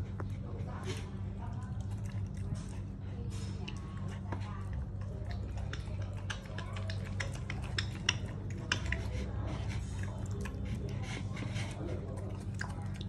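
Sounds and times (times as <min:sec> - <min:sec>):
pig eating from metal bowl: 0:00.0 - 0:13.0.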